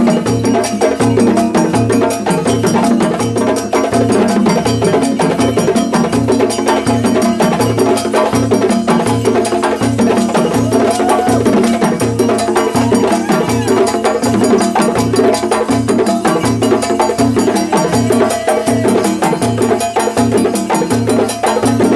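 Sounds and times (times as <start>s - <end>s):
hand drum strikes: 0.0s - 21.9s
ringing metal bells: 0.0s - 21.9s.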